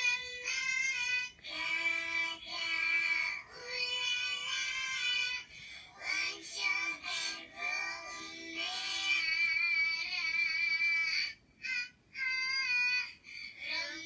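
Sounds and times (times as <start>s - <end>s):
song with high singing voice: 0.0s - 14.0s.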